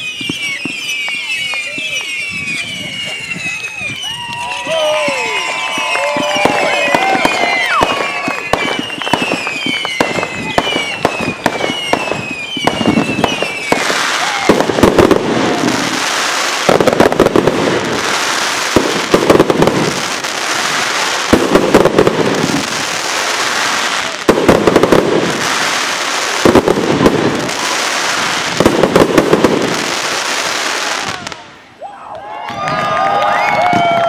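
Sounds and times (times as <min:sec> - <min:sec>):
falling firework whistles: 0:00.0 - 0:31.4
firework bangs: 0:00.0 - 0:31.6
firework crackle: 0:00.0 - 0:31.7.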